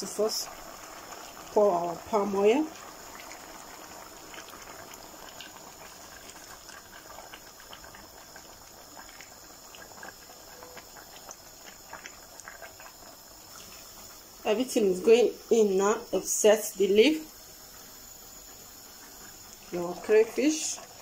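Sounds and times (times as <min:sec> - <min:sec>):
crackling hiss with ticks: 0:00.0 - 0:21.0.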